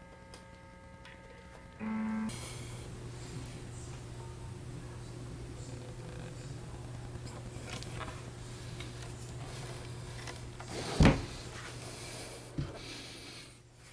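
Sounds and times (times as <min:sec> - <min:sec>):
guitar amp electrical hum: 0:00.0 - 0:13.9.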